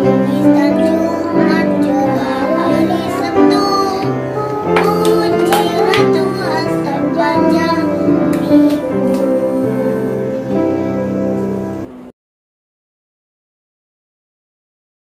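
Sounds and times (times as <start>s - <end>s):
children's song: 0.0s - 12.1s.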